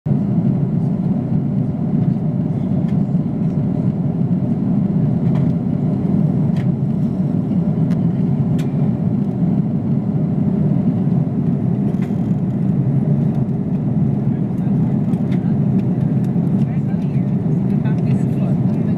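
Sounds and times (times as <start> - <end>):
airliner cabin rumble: 0.1 - 18.9.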